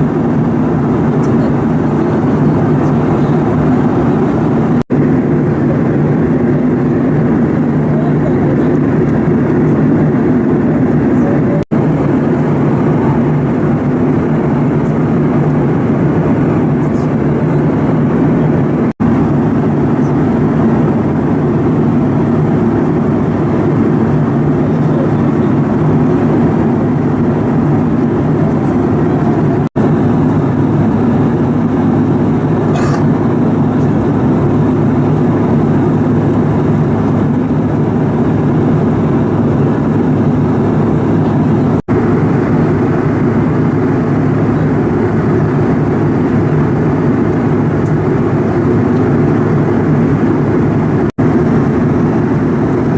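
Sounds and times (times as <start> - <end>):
airliner cabin drone: 0.0 - 52.9.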